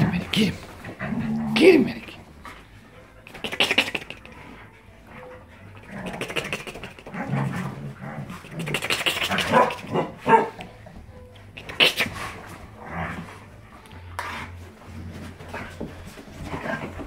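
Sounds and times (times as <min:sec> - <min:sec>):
dogs barking and growling: 0:00.0 - 0:17.0.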